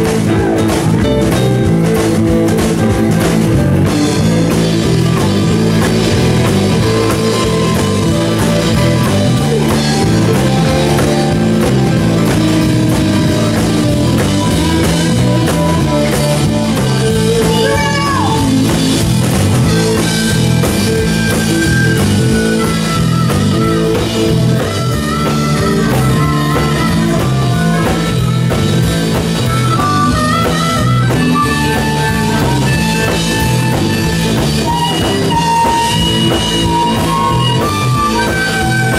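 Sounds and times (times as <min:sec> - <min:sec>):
drum kit: 0:00.0 - 0:38.9
electric guitars: 0:00.0 - 0:38.9
lead guitar line bending pitch: 0:00.0 - 0:38.9.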